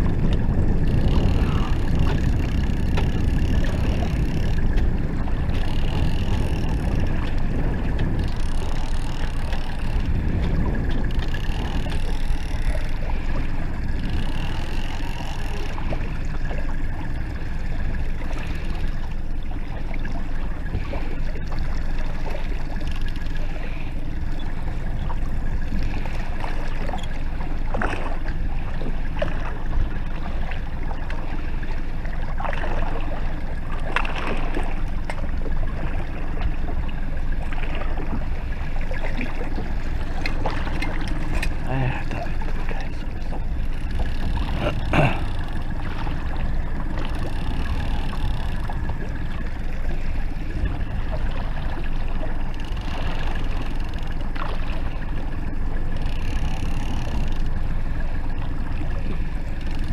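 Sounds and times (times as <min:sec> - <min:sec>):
small outboard motor running: 0:00.0 - 0:59.9
water churning along hull: 0:00.0 - 0:59.9
water splashes: 0:00.0 - 0:59.9.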